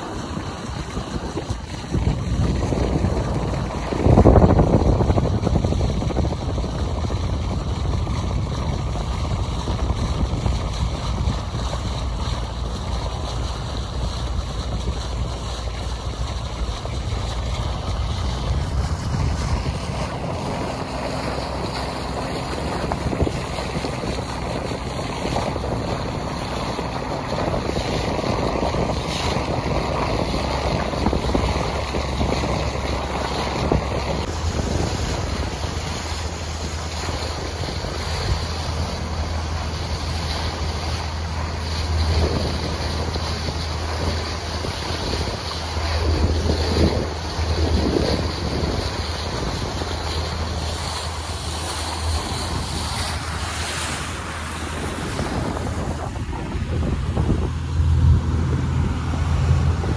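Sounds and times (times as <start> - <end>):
boat engine running: 0.0 - 59.9
water rushing past hull: 0.0 - 59.9
wind buffeting microphone: 0.0 - 59.9.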